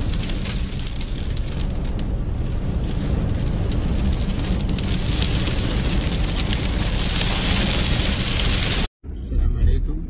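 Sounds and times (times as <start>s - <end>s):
wind buffeting rumble: 0.0s - 10.0s.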